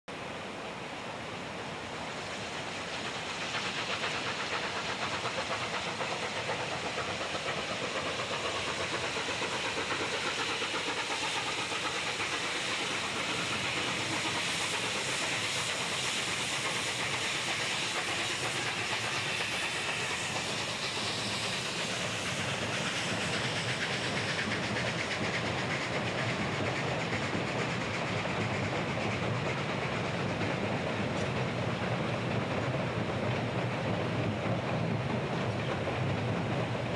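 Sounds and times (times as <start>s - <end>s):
train rumbling over a bridge: 0.1s - 36.9s.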